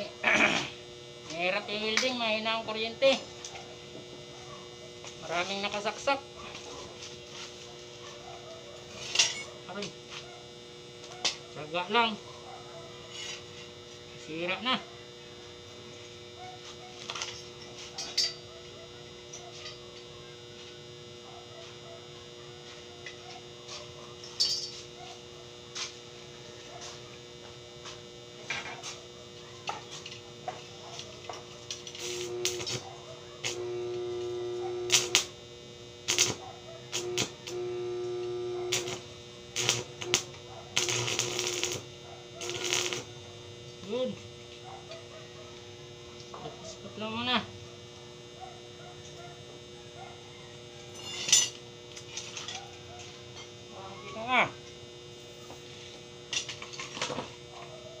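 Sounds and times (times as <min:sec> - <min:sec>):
welding arc buzzing and crackling: 0:00.0 - 0:58.0
welding machine humming: 0:00.0 - 0:58.0.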